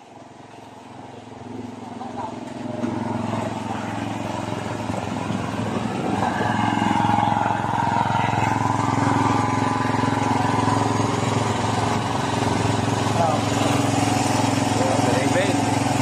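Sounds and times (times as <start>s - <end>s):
small boat engine running: 0.0s - 16.0s.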